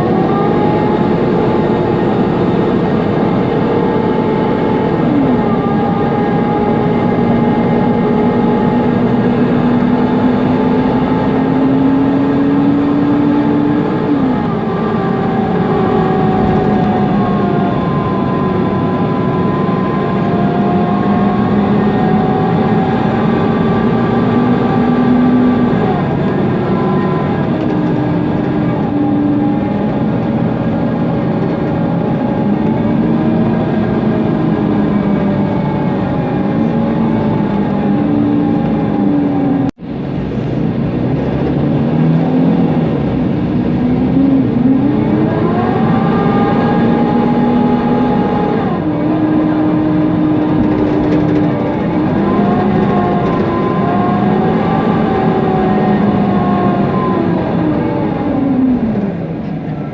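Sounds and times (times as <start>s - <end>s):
bus engine running: 0.0s - 59.9s
loud cooling fan: 0.0s - 59.9s
road noise: 0.0s - 59.9s
transmission whine: 0.0s - 59.9s.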